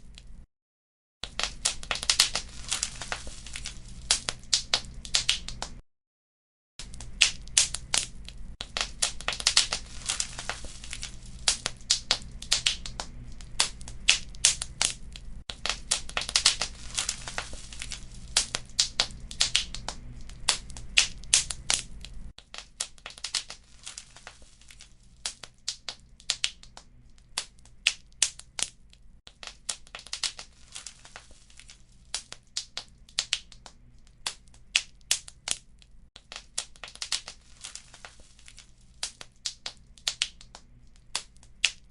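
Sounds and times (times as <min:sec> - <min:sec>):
wood fire crackling: 0:01.2 - 0:05.8, 0:06.8 - 0:41.9.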